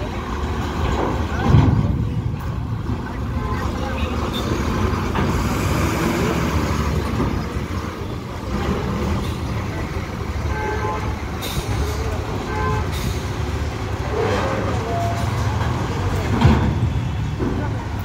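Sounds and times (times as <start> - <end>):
bus engines rumbling: 0.0 - 18.0.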